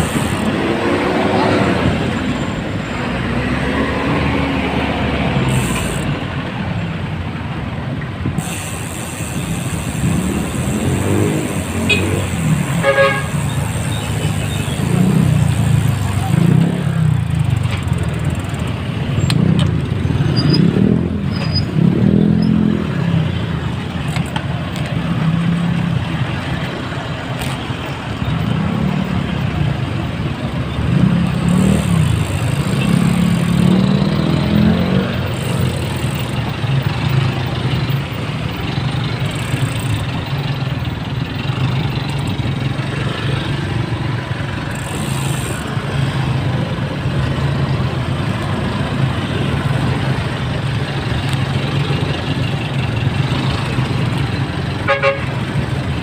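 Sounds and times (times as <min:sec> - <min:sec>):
heavy truck engine: 0:00.0 - 0:56.0
motorcycle engines: 0:00.0 - 0:56.0.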